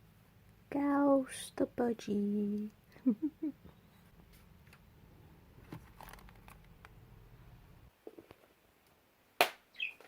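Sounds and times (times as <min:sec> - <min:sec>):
faint low hum: 0:00.0 - 0:09.4.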